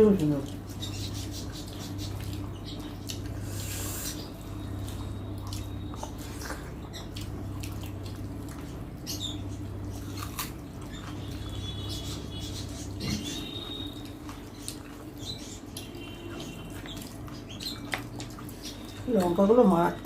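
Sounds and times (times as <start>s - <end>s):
steady low hum: 0.0s - 20.0s
wet chewing and lip smacks: 0.4s - 19.4s.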